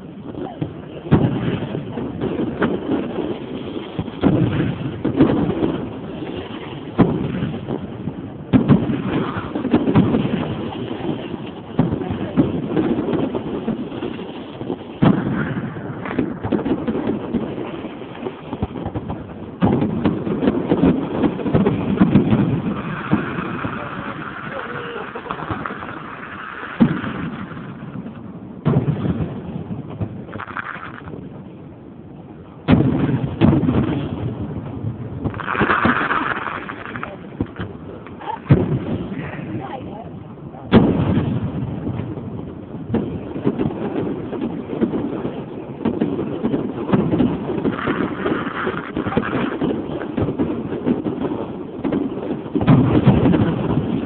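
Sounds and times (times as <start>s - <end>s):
firework bang: 0.0s - 31.7s, 32.4s - 54.0s
fireworks crackling pops: 0.0s - 54.0s.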